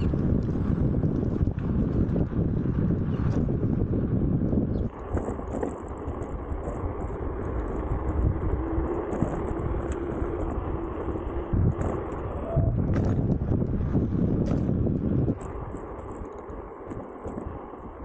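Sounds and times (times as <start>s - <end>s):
faint motor whine: 0.0s - 18.0s
tyre noise: 0.0s - 18.0s
wind rumbling on microphone: 0.0s - 18.0s.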